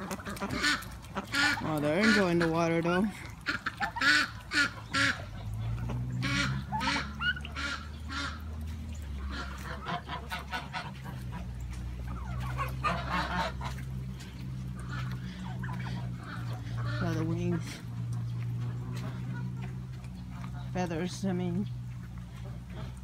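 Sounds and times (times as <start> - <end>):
poultry calling: 0.0 - 23.0
steady low rumble: 0.1 - 23.0.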